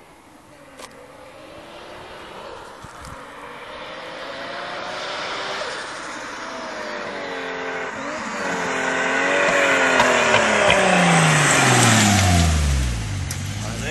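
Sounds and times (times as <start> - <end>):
car engine running hard: 0.0 - 13.9.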